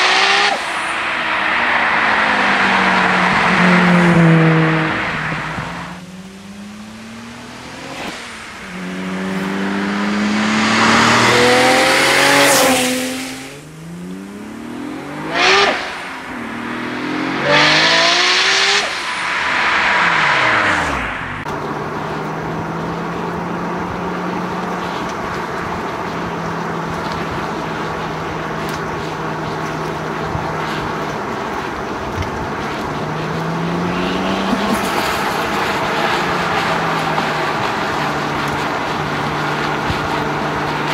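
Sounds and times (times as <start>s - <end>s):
car engine revving hard: 0.0s - 40.9s
car passing by: 0.0s - 40.9s.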